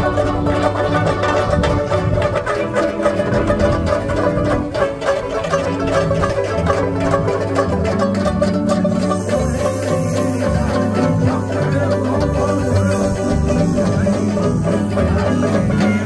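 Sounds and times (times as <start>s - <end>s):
banjo-ukuleles strummed together: 0.0s - 16.0s
bass line: 0.0s - 16.0s.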